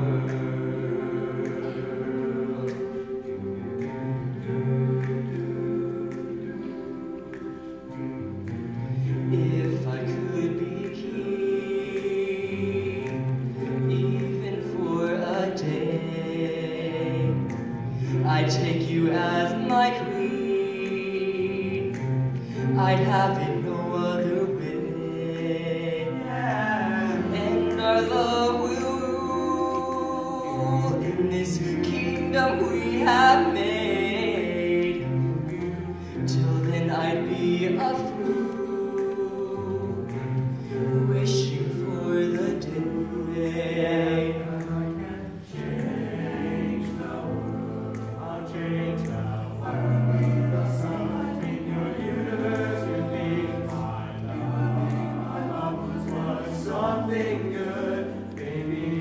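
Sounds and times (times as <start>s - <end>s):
male a cappella singing: 0.0s - 3.6s, 9.0s - 59.0s.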